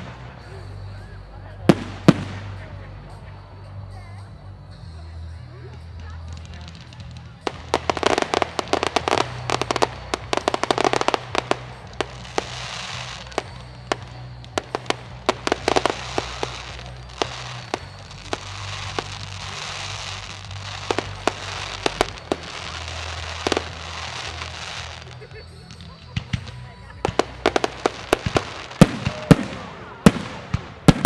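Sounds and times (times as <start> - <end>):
fireworks fizzing crackle: 0.0 - 4.2, 5.7 - 31.0.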